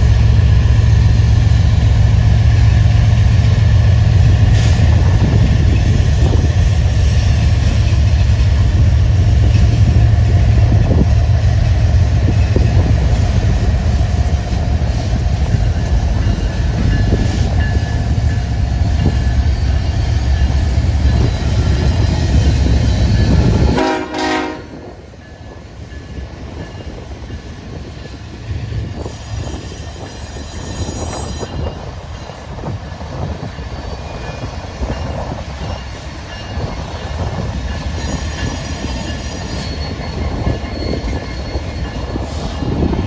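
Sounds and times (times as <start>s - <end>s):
train rumbling and rattling: 0.0s - 43.0s.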